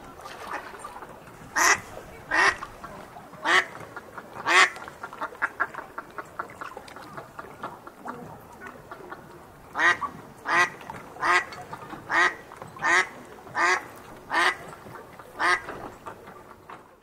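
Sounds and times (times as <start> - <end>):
faint duck calls: 1.5 - 14.8, 15.4 - 15.9.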